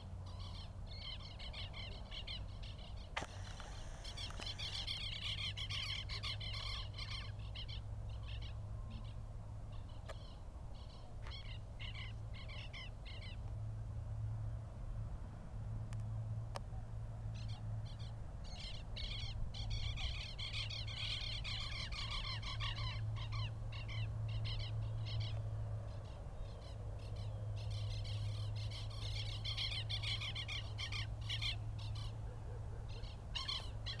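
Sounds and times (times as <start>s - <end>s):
birds chirping: 0.0s - 13.4s, 17.4s - 34.0s
steady low hum: 0.0s - 34.0s.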